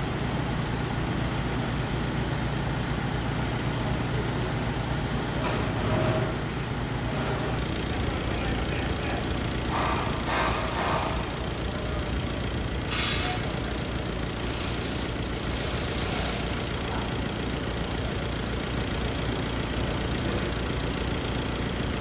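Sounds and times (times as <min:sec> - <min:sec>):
forklift engine idling: 0:00.0 - 0:22.0.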